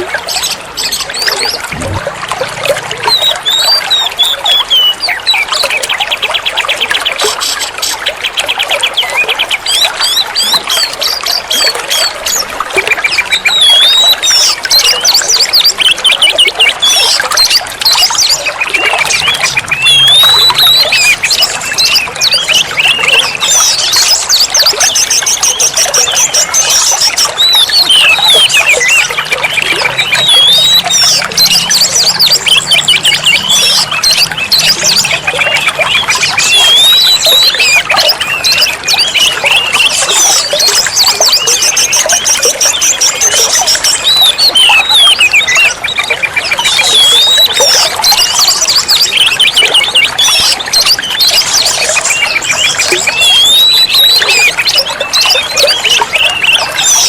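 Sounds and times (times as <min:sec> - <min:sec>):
bird singing varied whistles: 0:03.0 - 0:05.9, 0:12.9 - 0:57.0.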